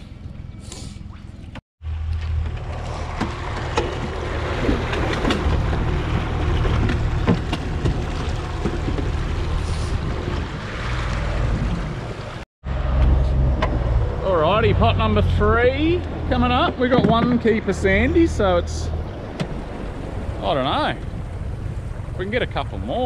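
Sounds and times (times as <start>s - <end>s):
water rushing off hull: 1.0s - 23.0s
outboard motor running: 1.8s - 23.0s.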